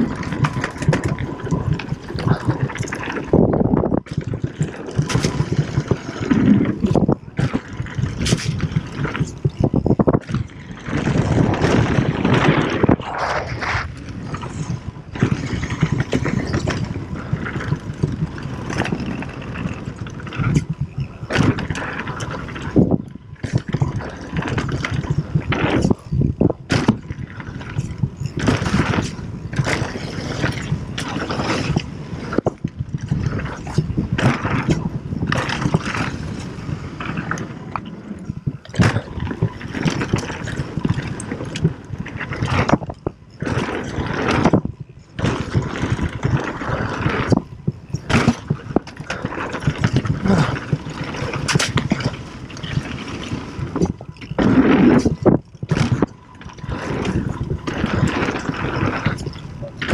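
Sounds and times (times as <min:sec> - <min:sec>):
bike knocking and rattling: 0:00.0 - 0:59.9
rushing wind noise: 0:00.0 - 0:59.9
tyre rumbling on dirt: 0:00.0 - 0:59.9.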